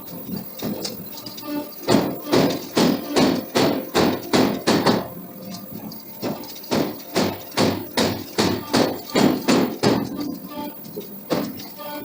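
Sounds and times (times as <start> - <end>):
hammer striking steel: 0.7 - 5.2, 5.9 - 12.0.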